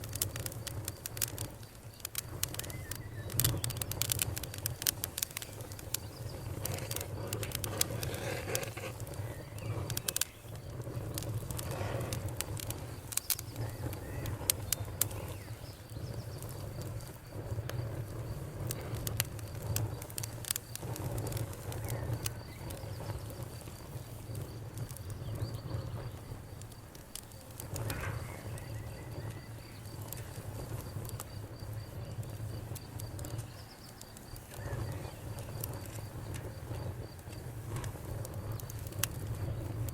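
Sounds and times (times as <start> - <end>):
campfire crackling: 0.0 - 39.9
low rumble of flames: 0.0 - 39.9.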